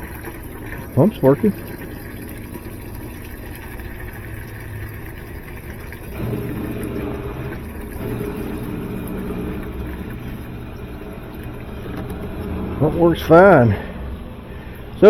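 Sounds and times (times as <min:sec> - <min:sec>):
washer drain pump humming: 0:00.0 - 0:15.0.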